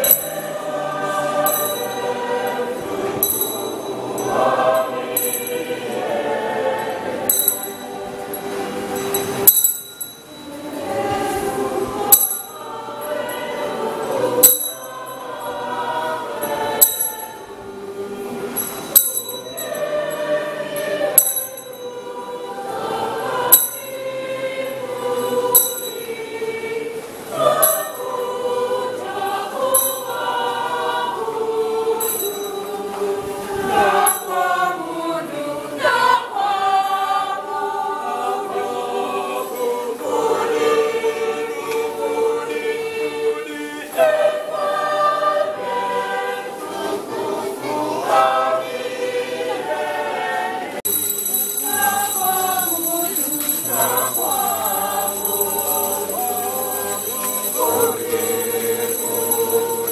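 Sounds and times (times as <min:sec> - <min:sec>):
choir and congregation singing a hymn: 0:00.0 - 0:59.9.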